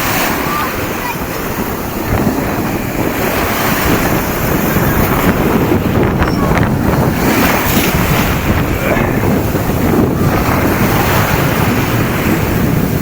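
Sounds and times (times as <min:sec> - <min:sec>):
sea waves rushing: 0:00.0 - 0:13.0
wind buffeting microphone: 0:00.0 - 0:13.0.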